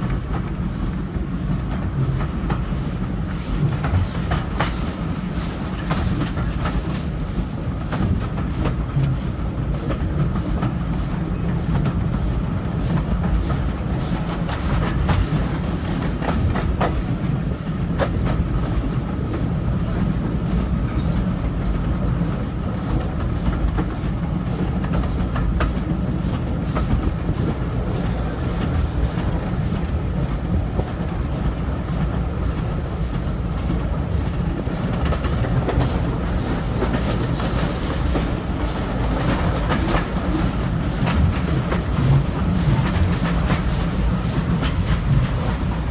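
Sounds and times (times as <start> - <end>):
steam locomotive exhaust beats: 0.0 - 45.9
train carriages rumbling: 0.0 - 45.9.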